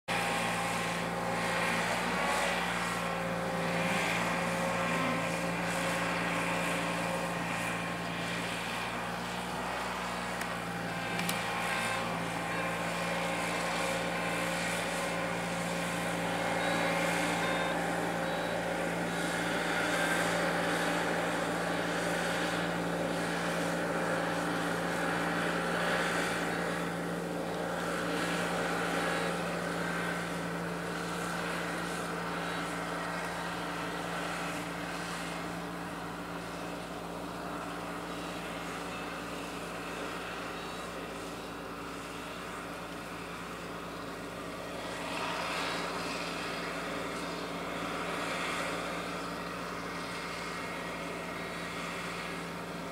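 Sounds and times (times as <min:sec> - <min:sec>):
road roller engine humming: 0:00.1 - 0:52.9.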